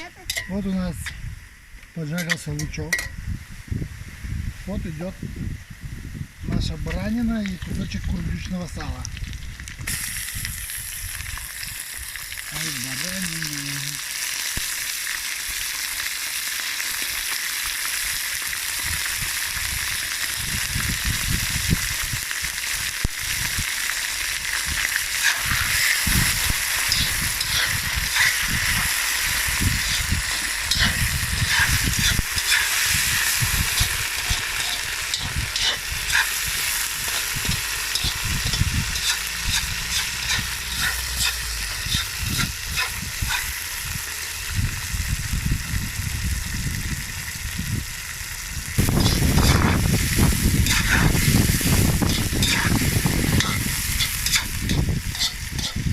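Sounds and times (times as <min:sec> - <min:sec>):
fat sizzling in hot oil: 0:00.0 - 0:55.9.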